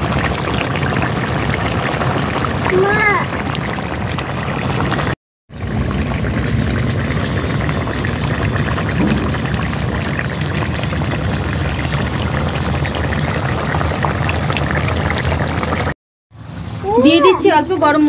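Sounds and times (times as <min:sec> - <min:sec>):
curry boiling and popping: 0:00.0 - 0:16.6.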